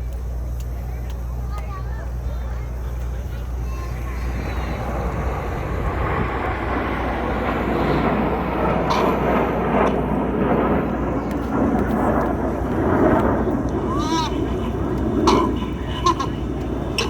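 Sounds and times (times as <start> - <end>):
jet aircraft rumble: 0.0 - 17.0.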